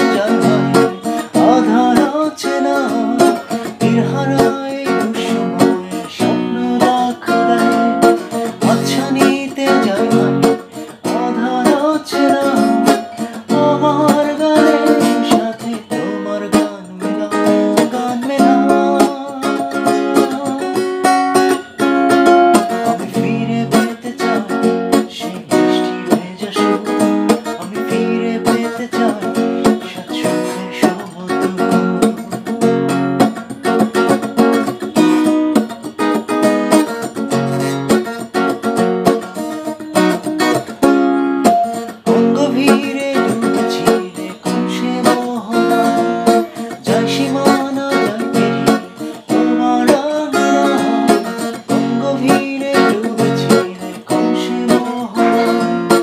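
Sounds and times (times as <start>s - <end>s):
acoustic guitar strumming: 0.0s - 56.0s
man singing: 0.0s - 56.0s.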